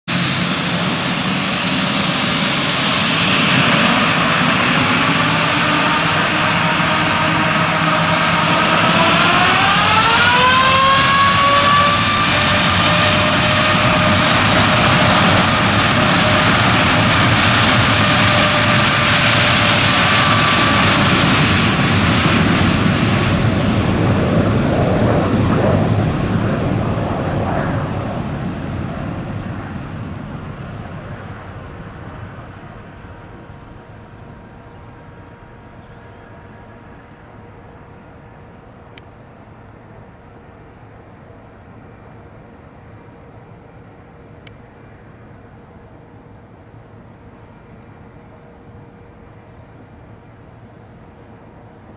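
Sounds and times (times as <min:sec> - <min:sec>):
loud jet rumble: 0:00.1 - 0:49.4
jet engine whine rising: 0:00.1 - 0:51.9.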